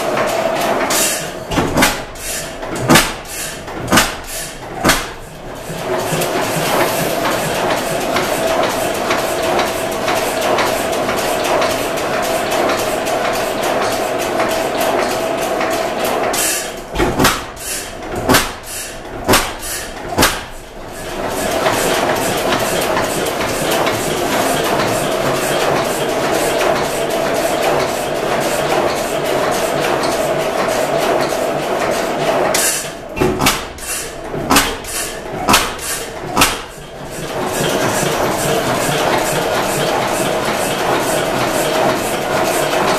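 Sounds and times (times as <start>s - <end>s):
engine firing slowly: 0.0s - 42.9s.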